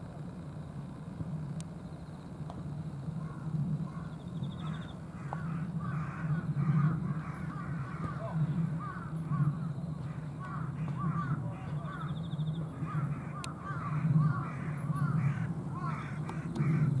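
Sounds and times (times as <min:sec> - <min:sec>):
steady low rumble: 0:00.0 - 0:17.0
birds calling: 0:03.1 - 0:17.0.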